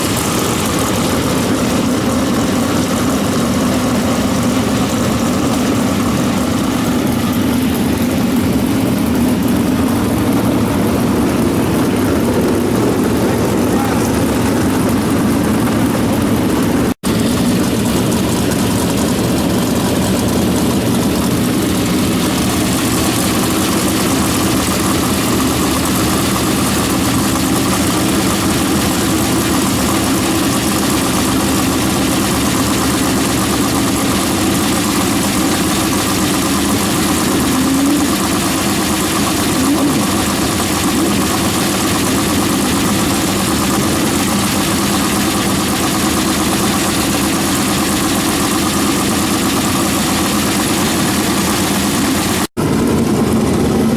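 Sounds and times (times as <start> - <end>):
race car engines running: 0.0 - 53.9.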